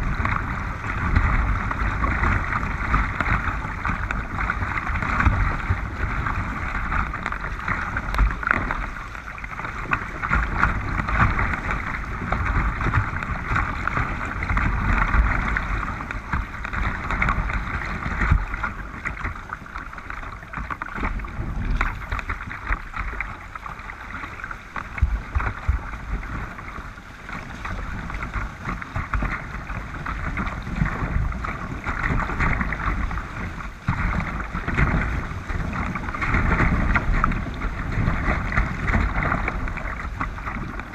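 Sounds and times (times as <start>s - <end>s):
water splashing against kayak: 0.0s - 40.9s
wind rumbling on microphone: 0.0s - 40.9s.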